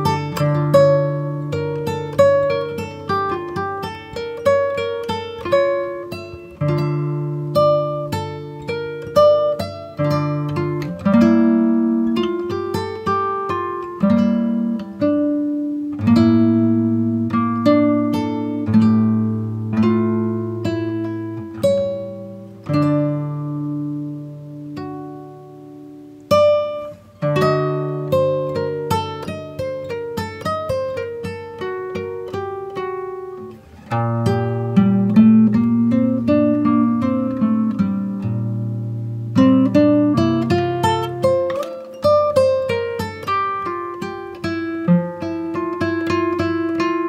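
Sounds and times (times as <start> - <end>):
plucked string instrument music: 0.0 - 47.0.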